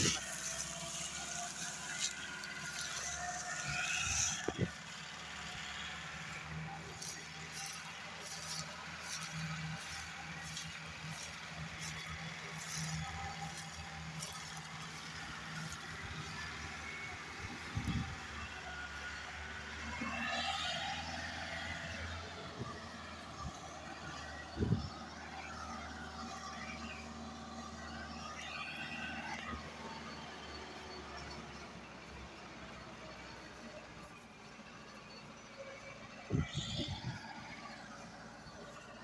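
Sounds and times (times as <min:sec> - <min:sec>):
diesel tractor engine droning: 0:00.0 - 0:39.0.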